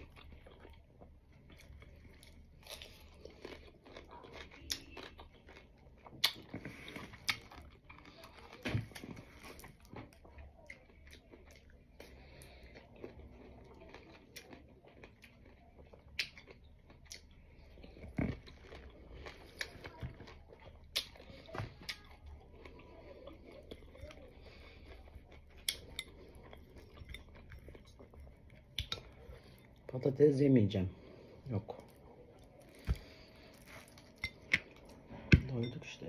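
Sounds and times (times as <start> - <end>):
person chewing food: 0.0 - 30.2, 30.8 - 35.7.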